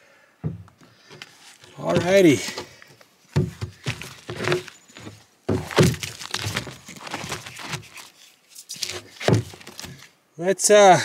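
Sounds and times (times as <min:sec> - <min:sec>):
crinkling and rustling handling: 0:00.7 - 0:10.2.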